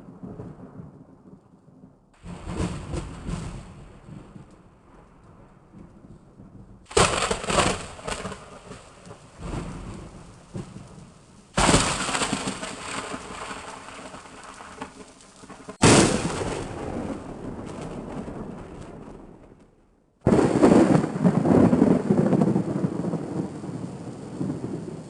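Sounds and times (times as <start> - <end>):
thunderclaps: 0.0 - 25.0.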